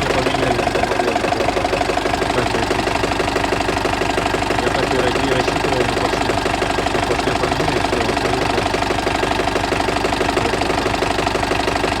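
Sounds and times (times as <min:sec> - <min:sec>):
diesel engine idling with knock: 0:00.0 - 0:12.0.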